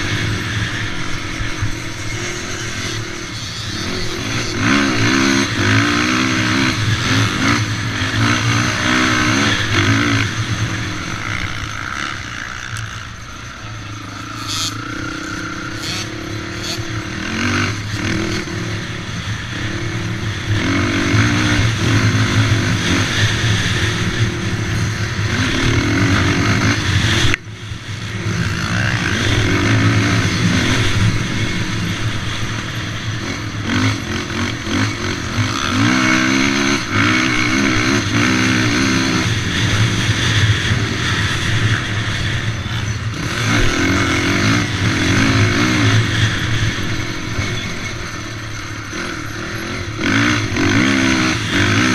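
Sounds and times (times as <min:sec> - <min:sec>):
quad engine revving: 0:00.0 - 0:27.4, 0:28.0 - 0:48.1, 0:48.9 - 0:51.9.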